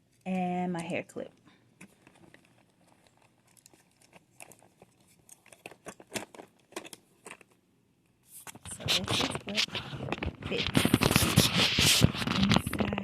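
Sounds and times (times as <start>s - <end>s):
small items clicking and rustling: 1.8s - 7.6s, 8.4s - 13.0s.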